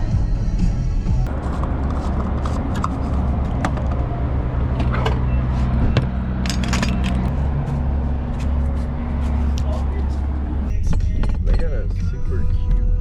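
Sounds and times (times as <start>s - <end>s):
car engine running: 1.0s - 12.4s.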